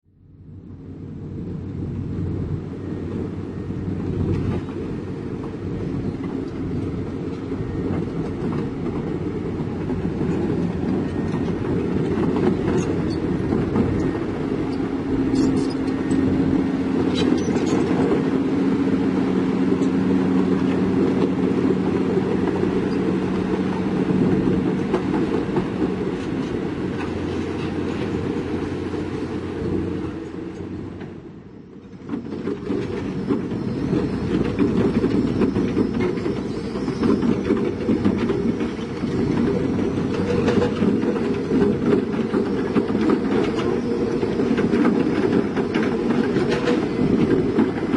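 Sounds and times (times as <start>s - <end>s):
diesel machinery engine rumble: 0.2s - 47.9s.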